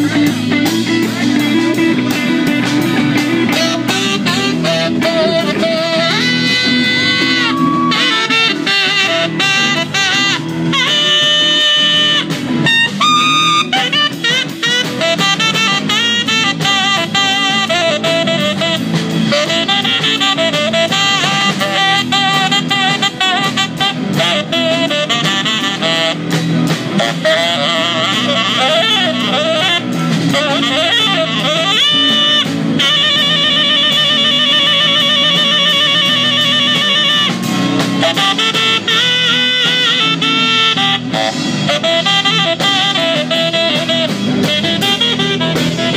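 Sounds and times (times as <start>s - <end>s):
jazz band playing: 0.0s - 45.9s
wavering lead melody: 0.0s - 45.9s.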